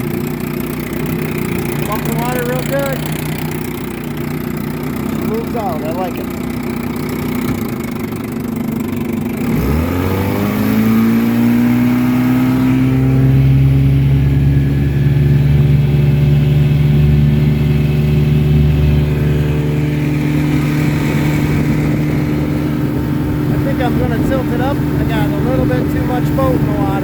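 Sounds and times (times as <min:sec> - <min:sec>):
outboard motor revving: 0:00.0 - 0:27.0.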